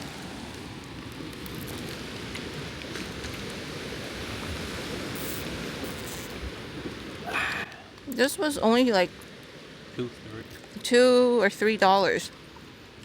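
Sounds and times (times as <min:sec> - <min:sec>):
gentle surf on a beach: 0:00.0 - 0:13.0.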